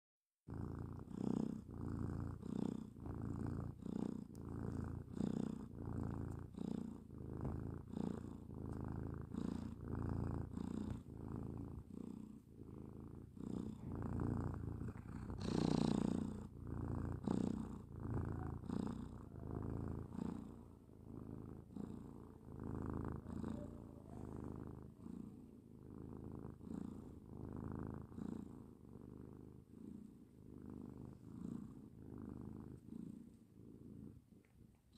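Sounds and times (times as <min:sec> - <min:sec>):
cat snoring: 0:00.5 - 0:34.3.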